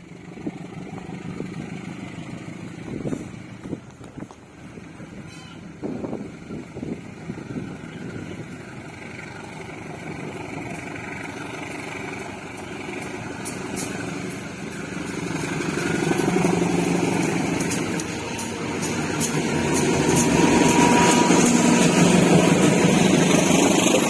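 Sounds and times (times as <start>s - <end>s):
train engine hum and running noise: 0.0s - 24.0s.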